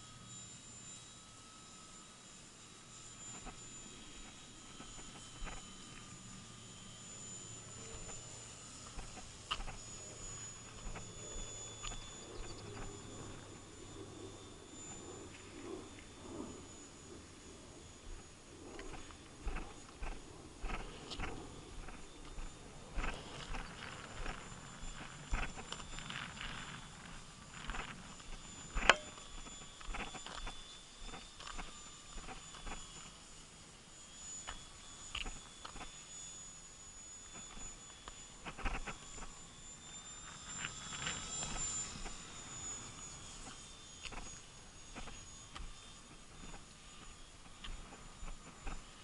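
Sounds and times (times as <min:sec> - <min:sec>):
model plane motor whine: 0:00.0 - 0:49.0.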